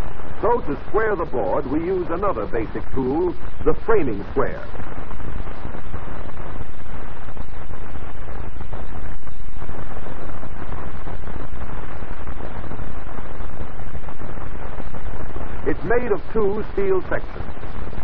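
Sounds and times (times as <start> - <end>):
film soundtrack hiss and crackle: 0.0 - 18.0.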